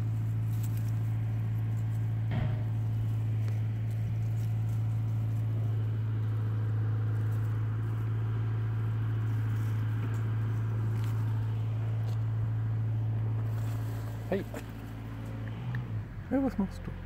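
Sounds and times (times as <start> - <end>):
rustling in tall grass: 0.0 - 15.7
low hum: 0.0 - 17.0.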